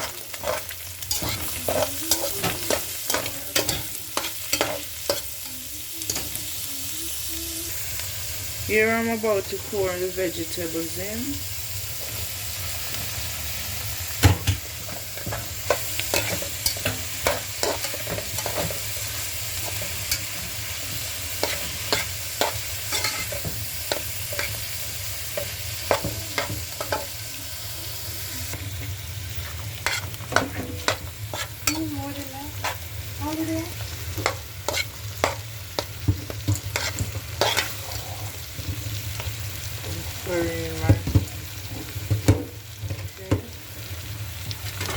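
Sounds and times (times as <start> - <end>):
food sizzling in a hot pan: 0.0 - 44.9.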